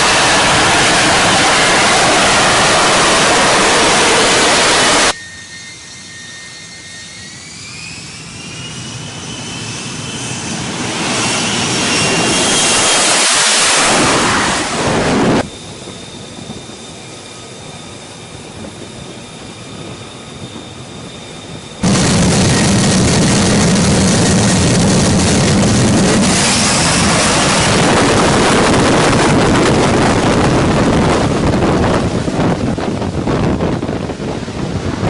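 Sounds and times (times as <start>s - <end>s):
jet engine high whine: 0.0s - 35.0s
jet engine roar: 0.0s - 35.0s.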